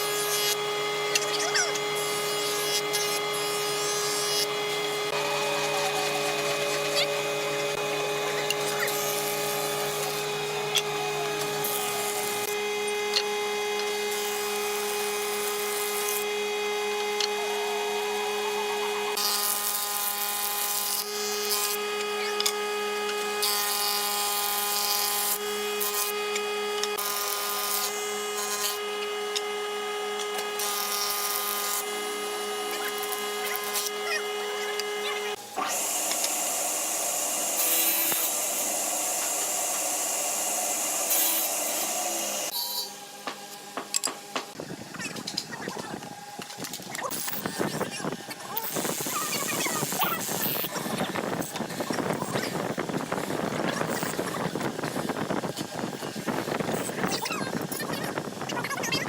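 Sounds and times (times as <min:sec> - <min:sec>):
power tool motor whine: 0:00.0 - 0:59.0.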